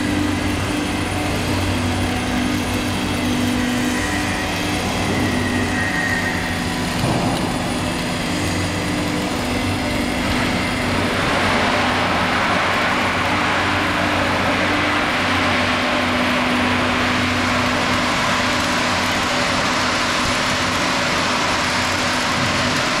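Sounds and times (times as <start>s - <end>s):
welding arcs crackling and hissing: 0.0s - 23.0s.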